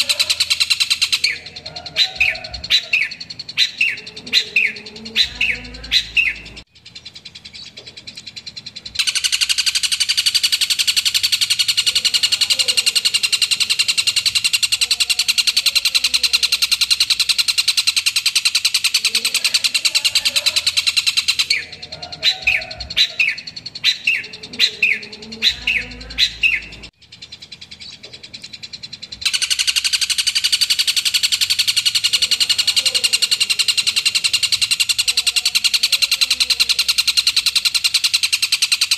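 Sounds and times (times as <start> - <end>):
bird rattling trill: 0.0 - 38.9.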